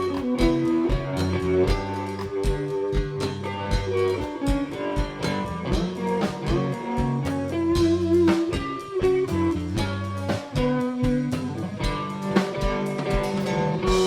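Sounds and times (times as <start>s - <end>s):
blues-rock band playing: 0.0s - 14.0s.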